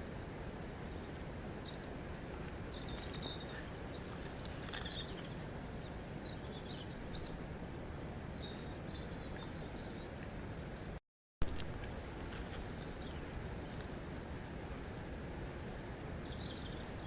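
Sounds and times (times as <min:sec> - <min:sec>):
small birds chirping: 0:00.2 - 0:11.0, 0:12.6 - 0:14.4, 0:15.9 - 0:17.0.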